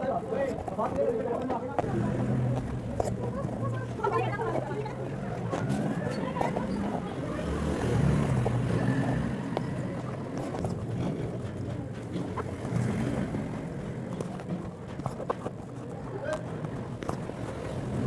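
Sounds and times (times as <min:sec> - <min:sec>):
low engine rumble: 0:01.8 - 0:18.0.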